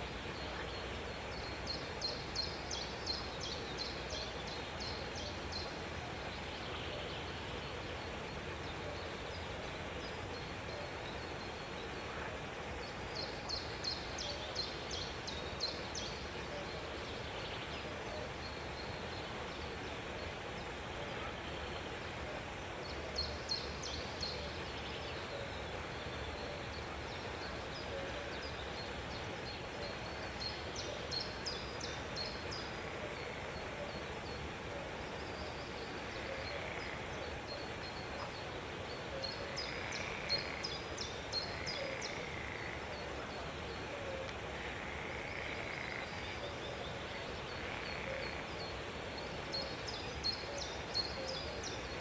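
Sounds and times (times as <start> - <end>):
steady background noise: 0.0 - 52.0.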